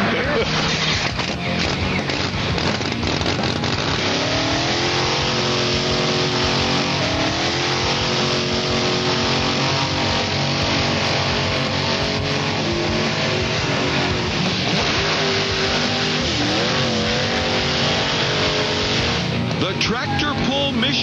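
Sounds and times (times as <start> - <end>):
tractor engines roaring under load: 0.0 - 21.0.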